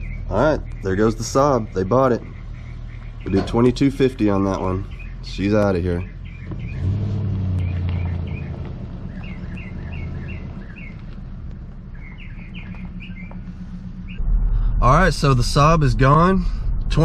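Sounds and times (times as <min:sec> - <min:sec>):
small birds chirping: 0:00.0 - 0:14.3
truck engine pulling away: 0:00.0 - 0:17.0.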